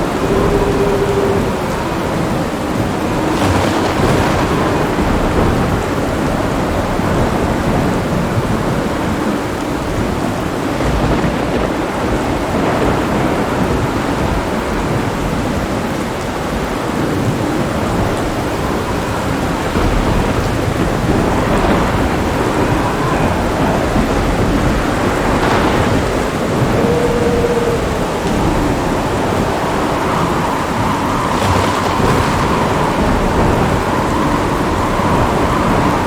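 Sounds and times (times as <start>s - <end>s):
heavy rain: 0.0s - 36.0s
low rolling thunder: 0.0s - 36.0s.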